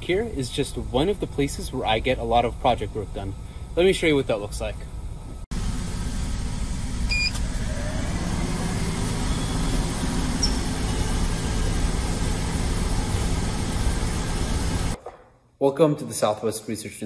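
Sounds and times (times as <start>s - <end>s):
low rumbling hum: 0.0s - 15.0s.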